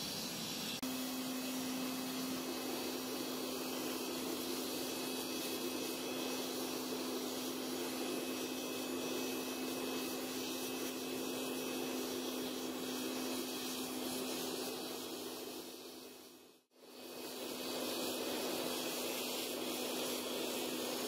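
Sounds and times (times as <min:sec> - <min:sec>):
gas forge rushing: 0:00.0 - 0:21.0.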